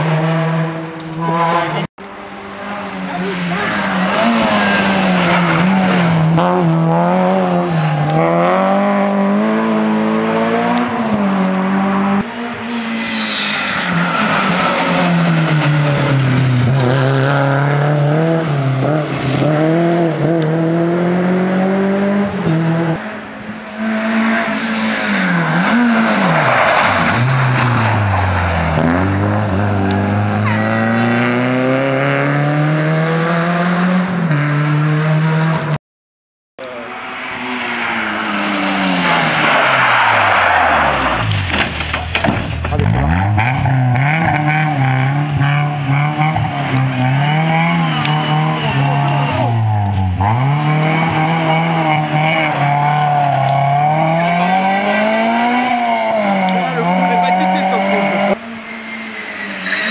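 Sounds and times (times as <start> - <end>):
rally car engines revving: 0.0 - 35.8, 36.6 - 59.9.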